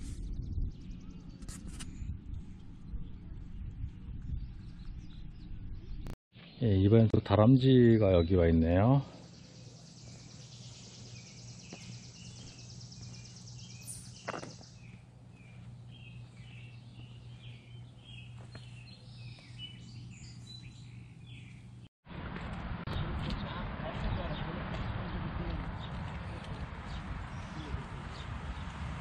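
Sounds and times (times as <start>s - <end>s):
small birds chirping: 0.1s - 21.9s, 22.9s - 29.0s.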